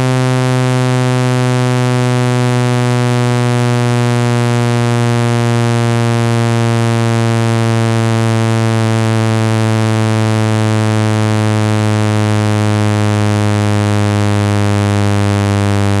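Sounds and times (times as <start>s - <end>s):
loud low buzz from phone speaker: 0.0s - 16.0s.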